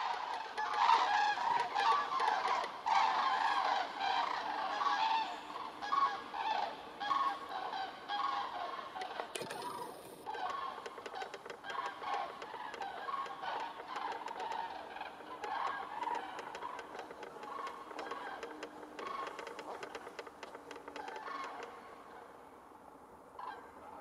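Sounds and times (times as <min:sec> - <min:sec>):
cranes trumpeting calls: 0:00.0 - 0:22.6, 0:23.3 - 0:24.0.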